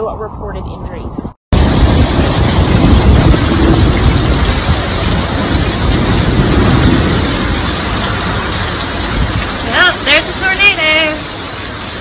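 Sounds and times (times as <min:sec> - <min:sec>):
tornado wind: 0:00.0 - 0:12.0
heavy rain: 0:01.5 - 0:12.0.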